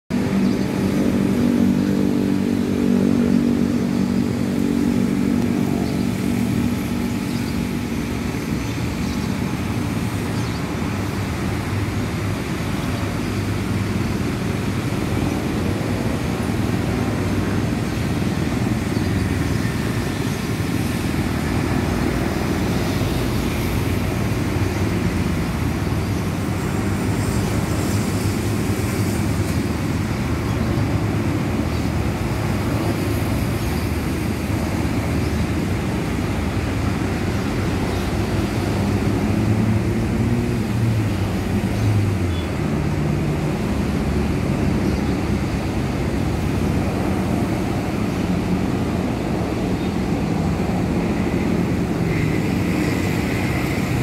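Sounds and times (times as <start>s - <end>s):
low engine drone: 0.1s - 54.0s
steady engine hum: 0.1s - 54.0s.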